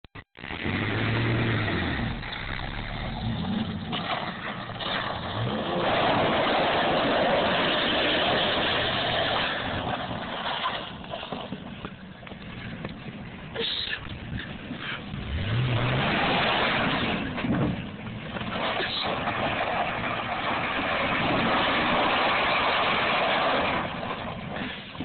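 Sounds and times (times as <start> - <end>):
truck engine revving: 0.4 - 10.6, 14.8 - 24.6.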